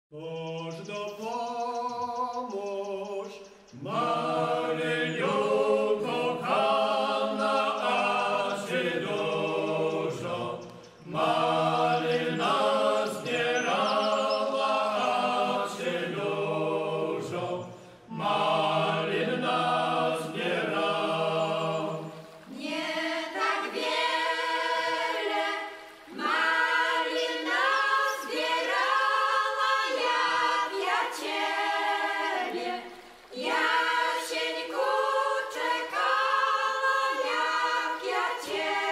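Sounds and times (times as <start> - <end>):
group singing unaccompanied: 0.2 - 38.9
women singing: 0.3 - 38.9.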